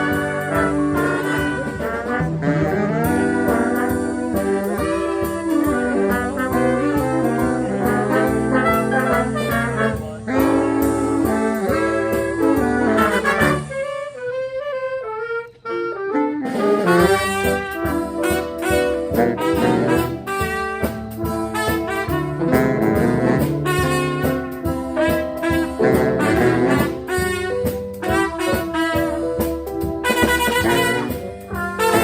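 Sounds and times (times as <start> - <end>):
swing band with horns: 0.0 - 32.0.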